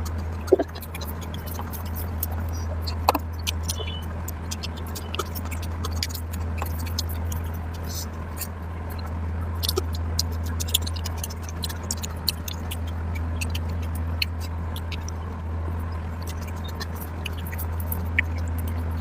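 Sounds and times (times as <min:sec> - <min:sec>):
steady low hum: 0:00.0 - 0:19.0
wet chewing mouth clicks: 0:00.0 - 0:19.0.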